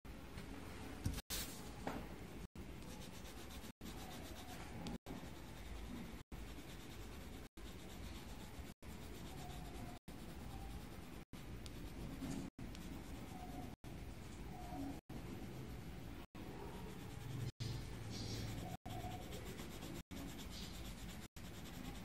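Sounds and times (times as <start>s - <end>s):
pencil scratching on paper: 2.8s - 22.0s.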